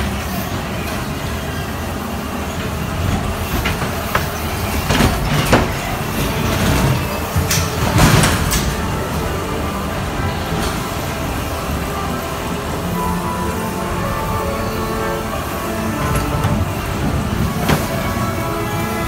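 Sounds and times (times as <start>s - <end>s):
ride car rumbling along track: 0.0s - 19.0s.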